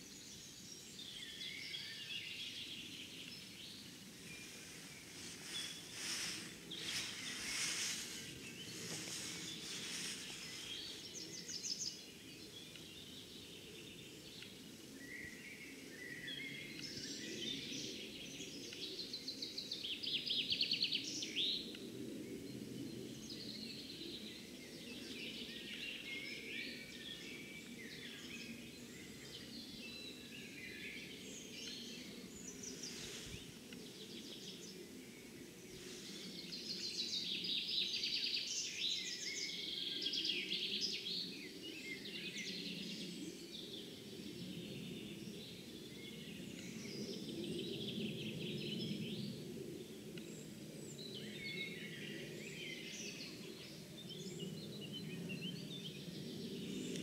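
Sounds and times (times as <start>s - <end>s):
low outdoor background noise: 0.0s - 57.0s
songbirds singing and chirping: 0.0s - 57.0s.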